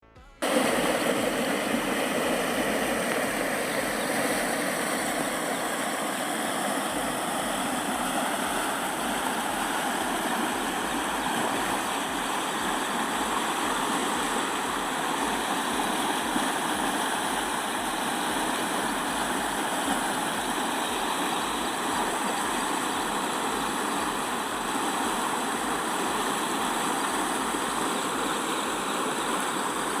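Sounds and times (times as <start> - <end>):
river water rushing: 0.4 - 30.0.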